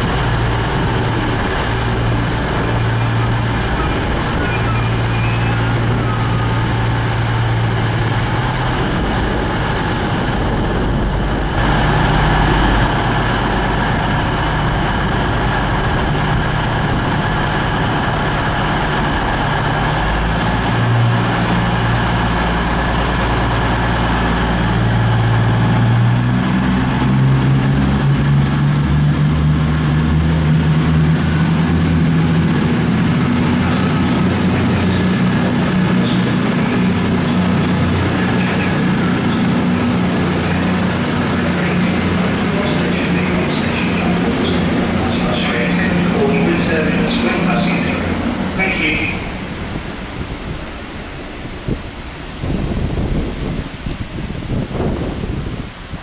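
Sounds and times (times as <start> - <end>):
diesel train engine running: 0.0 - 56.0.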